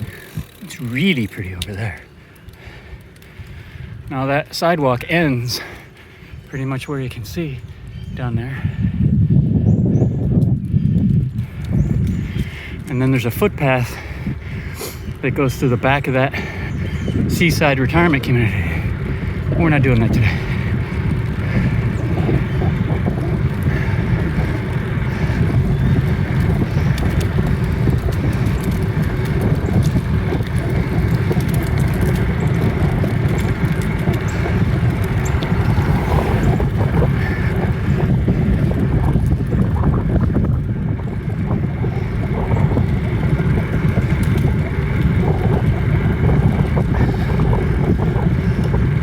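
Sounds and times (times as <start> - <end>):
bicycle tyre and road noise: 0.0 - 49.0
wind buffeting microphone: 0.0 - 49.0.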